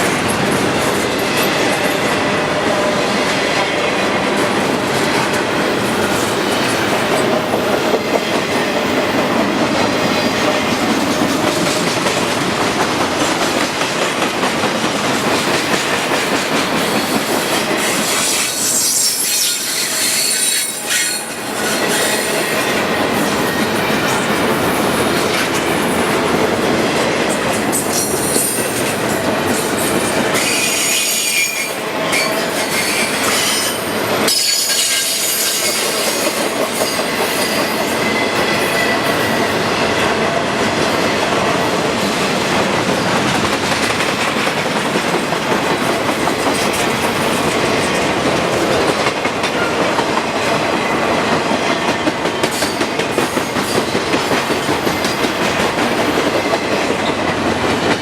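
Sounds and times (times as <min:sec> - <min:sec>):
freight train rolling on rails: 0:00.0 - 0:58.0.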